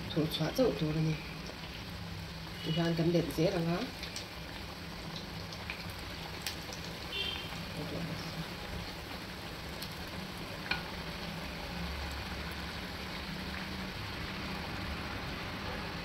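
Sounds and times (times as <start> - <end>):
oil sizzling: 0.0 - 16.0.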